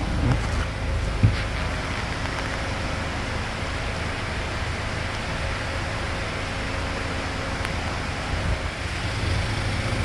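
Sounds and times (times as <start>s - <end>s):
van engine idling: 0.0s - 10.0s.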